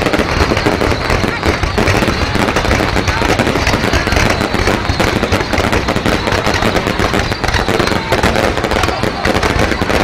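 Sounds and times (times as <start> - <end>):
fireworks cracking and banging: 0.0 - 10.0.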